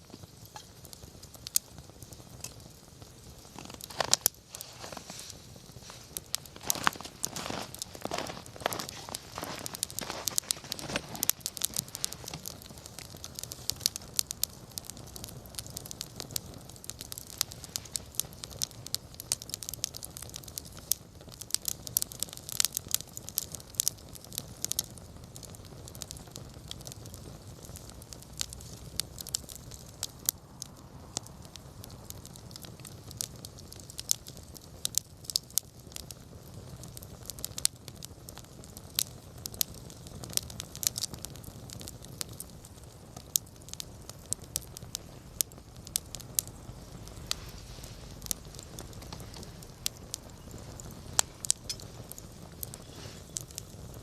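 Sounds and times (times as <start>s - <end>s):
bonfire crackling: 0.0s - 54.0s.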